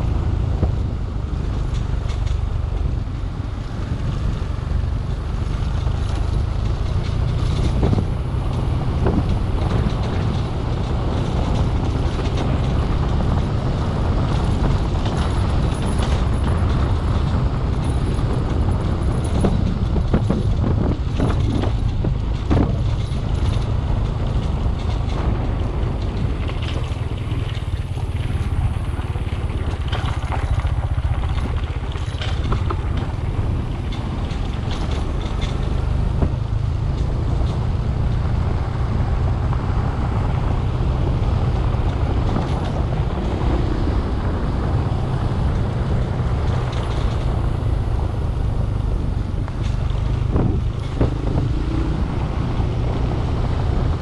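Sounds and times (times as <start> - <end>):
vehicle rumbling on dirt track: 0.0 - 54.0
knocks and rattles: 0.1 - 54.0.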